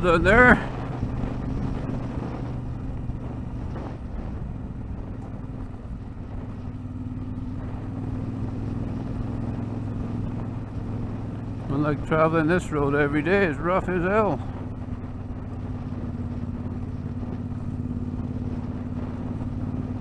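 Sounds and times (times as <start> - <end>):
road noise: 0.0 - 20.0
vehicle engine running: 0.0 - 20.0
wind noise: 0.0 - 20.0.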